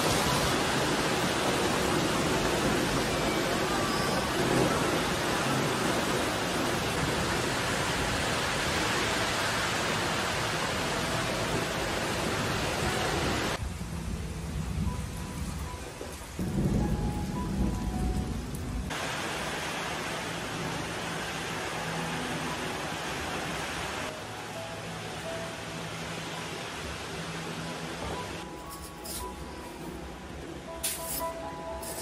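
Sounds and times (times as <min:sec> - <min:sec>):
heavy rain: 0:00.0 - 0:28.6.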